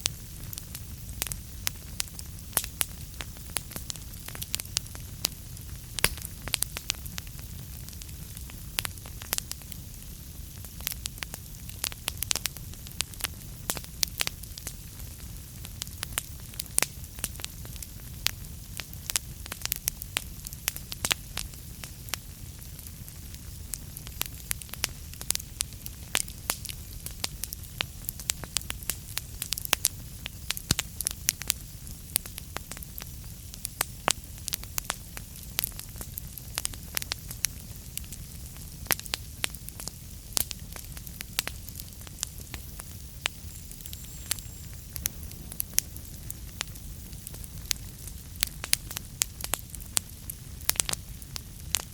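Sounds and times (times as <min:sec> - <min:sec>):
burning logs popping and snapping: 0:00.0 - 0:51.9
low rumble of flames: 0:00.0 - 0:51.9.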